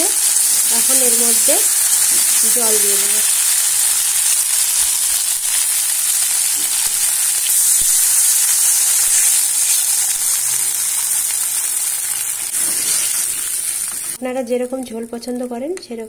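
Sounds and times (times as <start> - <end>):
spice paste sizzling in hot oil: 0.0 - 15.8.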